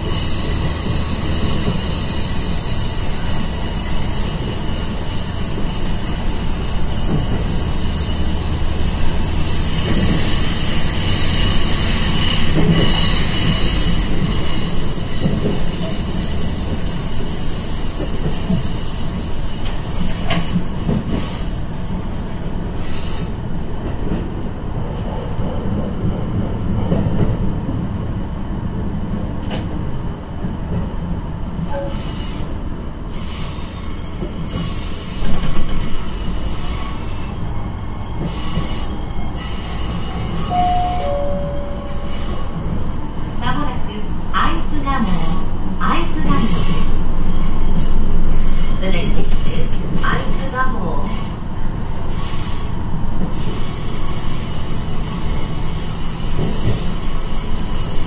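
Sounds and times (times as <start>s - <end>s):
railcar engine and wheels rumbling: 0.0s - 58.0s.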